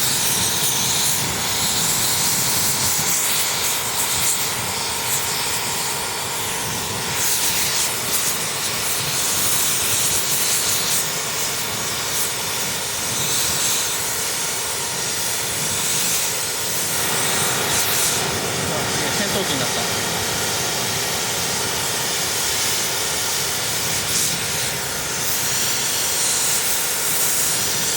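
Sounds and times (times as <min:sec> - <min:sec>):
jet-like roar of burning silencer: 0:00.0 - 0:27.9.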